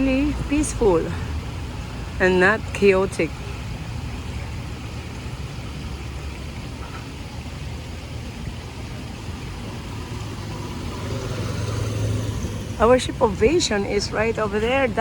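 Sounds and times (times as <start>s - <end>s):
engine rumble: 0.0s - 15.0s
road hiss: 0.0s - 15.0s
vehicle approaching: 0.0s - 15.0s.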